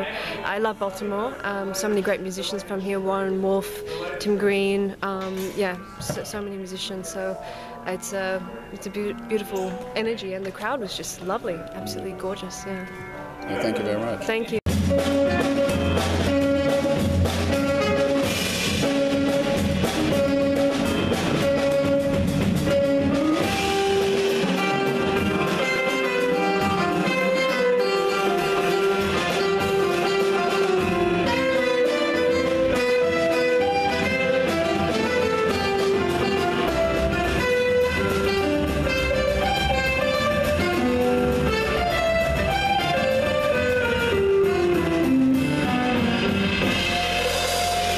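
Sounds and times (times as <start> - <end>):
small jazz group playing: 0.0 - 47.9.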